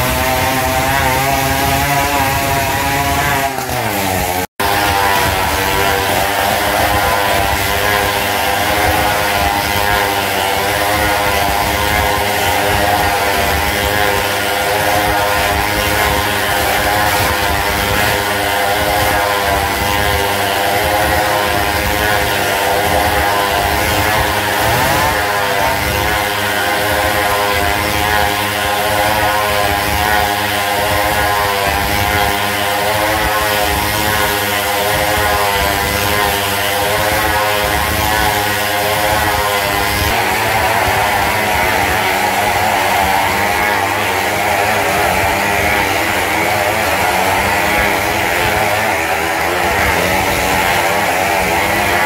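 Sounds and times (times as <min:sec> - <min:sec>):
motorcycle engines running hard: 0:00.0 - 0:52.0.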